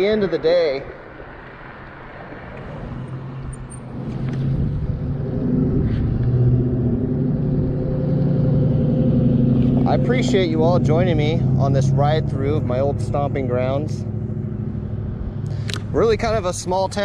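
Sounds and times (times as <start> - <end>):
faint wind: 0.0 - 17.0
road noise: 0.0 - 17.0
vehicle engine hum: 0.0 - 17.0.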